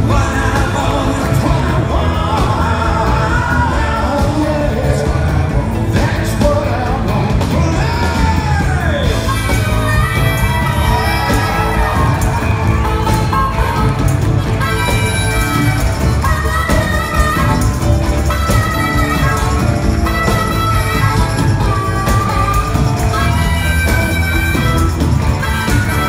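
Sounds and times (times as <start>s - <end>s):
heavy bass: 0.0s - 26.0s
live rock band playing: 0.0s - 26.0s
person singing and shouting: 0.0s - 26.0s.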